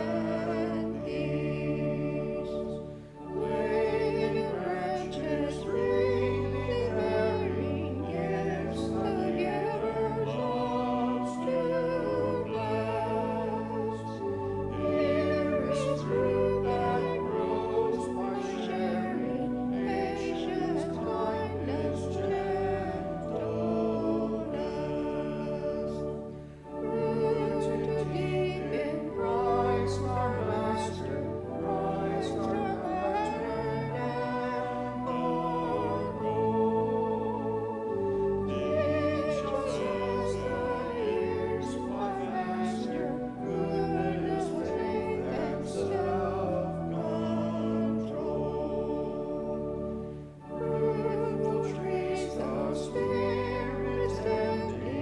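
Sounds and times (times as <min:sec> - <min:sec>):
hymn sung with accompaniment: 0:00.0 - 0:55.0.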